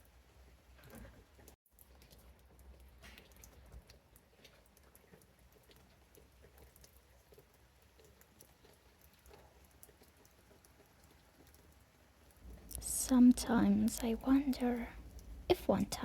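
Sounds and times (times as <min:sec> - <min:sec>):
light rain pattering: 0:00.0 - 0:16.0.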